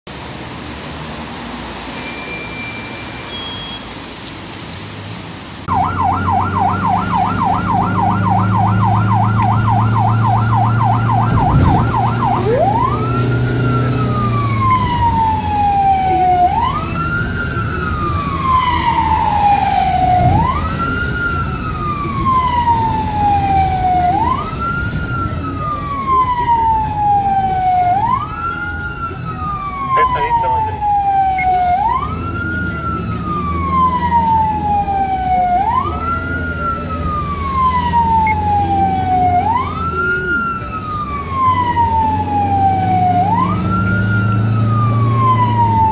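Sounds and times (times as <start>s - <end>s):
street noise: 0.0s - 45.9s
ambulance siren: 5.6s - 45.9s.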